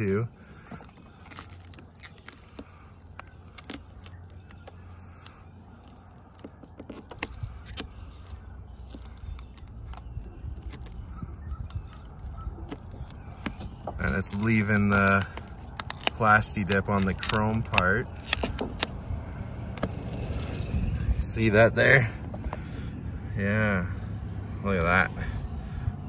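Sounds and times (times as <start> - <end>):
film peeling crackles: 0.0 - 21.4.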